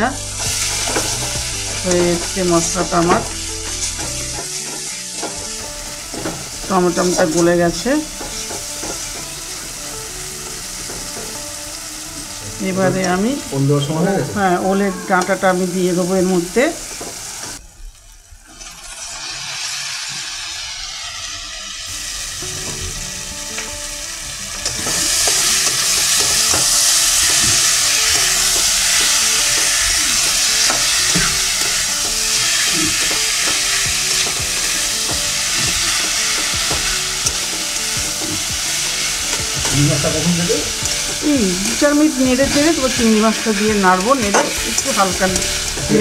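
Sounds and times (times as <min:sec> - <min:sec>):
food frying in hot oil: 0:00.0 - 0:46.0.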